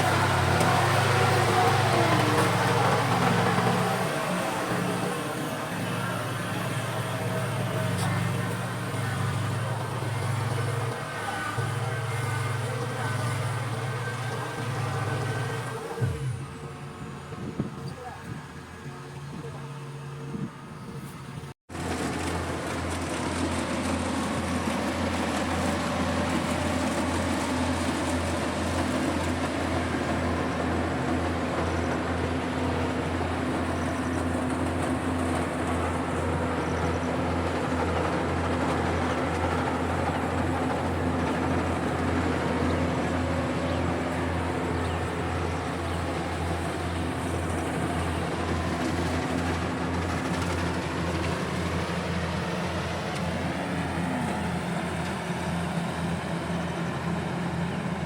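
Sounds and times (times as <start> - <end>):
harvesting machine engine drone: 0.0 - 58.0.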